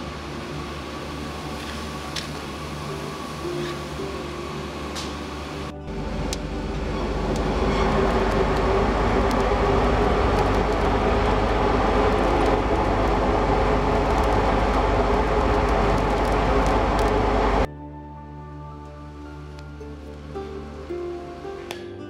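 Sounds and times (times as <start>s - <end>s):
forge fire roaring: 0.0s - 17.7s.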